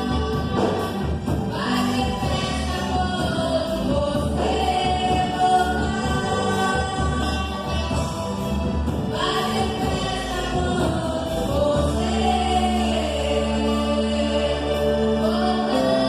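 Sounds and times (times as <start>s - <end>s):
choir singing a hymn: 0.0s - 16.0s
instrumental accompaniment: 0.0s - 16.0s
steady bass: 0.0s - 16.0s.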